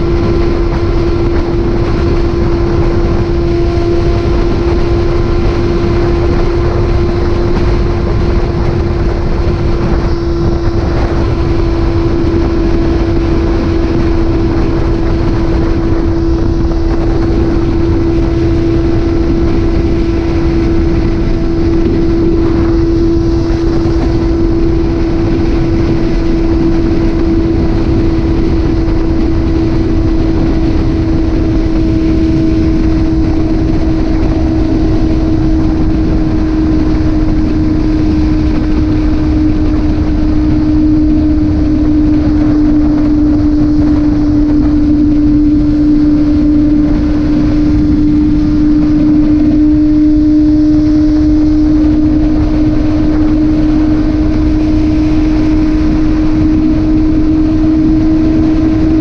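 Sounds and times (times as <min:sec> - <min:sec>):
motorcycle engine droning: 0:00.0 - 0:59.0
wind rushing over microphone: 0:00.0 - 0:59.0.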